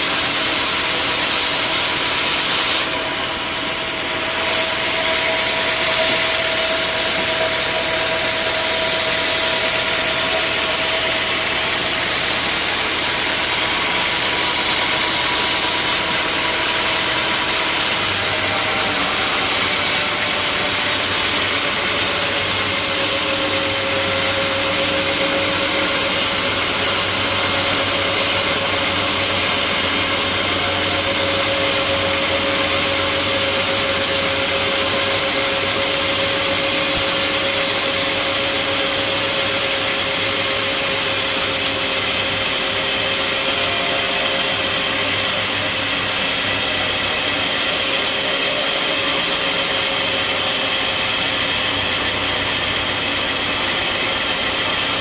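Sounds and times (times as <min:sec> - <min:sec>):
sawmill machinery motor: 0:00.0 - 0:55.0.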